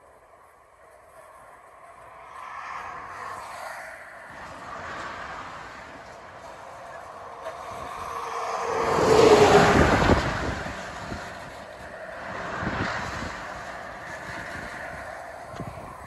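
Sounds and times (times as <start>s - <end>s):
freight wagons rolling over bridge: 0.0s - 16.0s
smaller vehicle passing: 1.0s - 16.0s
heavy truck passing: 2.8s - 16.0s.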